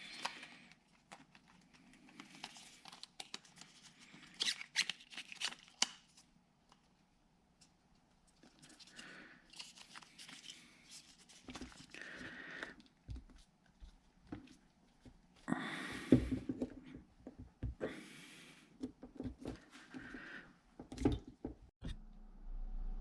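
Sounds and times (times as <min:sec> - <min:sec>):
parts rustling and crinkling: 0:00.0 - 0:17.8, 0:18.8 - 0:21.7.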